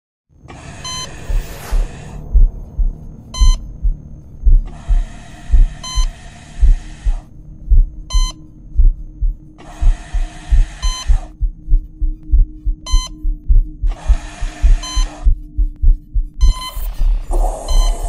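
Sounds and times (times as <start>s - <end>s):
heartbeat thumps: 0.5s - 18.0s
patient monitor beeps: 0.6s - 18.0s.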